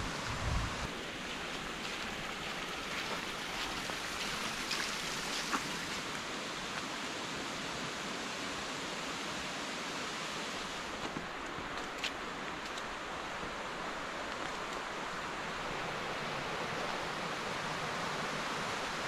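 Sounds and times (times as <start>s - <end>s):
water rushing over rocks: 0.1s - 19.0s.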